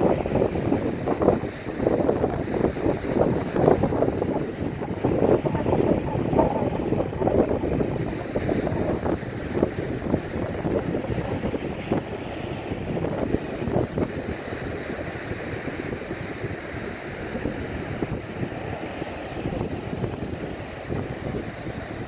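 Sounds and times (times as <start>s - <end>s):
surf breaking on shore: 0.0s - 22.0s
wind buffeting microphone: 0.0s - 22.0s.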